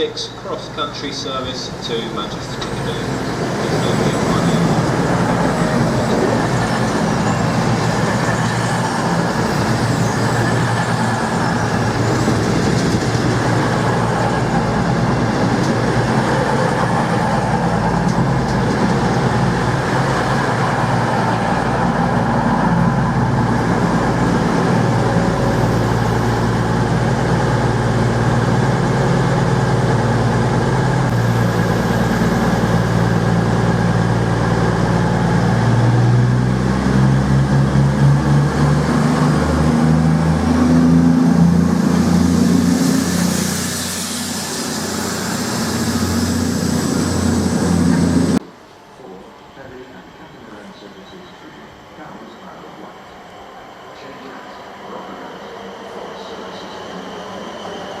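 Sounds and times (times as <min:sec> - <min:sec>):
diesel train engines running: 0:00.0 - 0:58.0.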